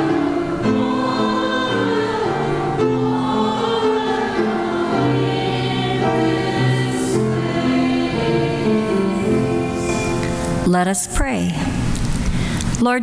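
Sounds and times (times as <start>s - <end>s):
congregation singing a hymn: 0.0s - 10.7s.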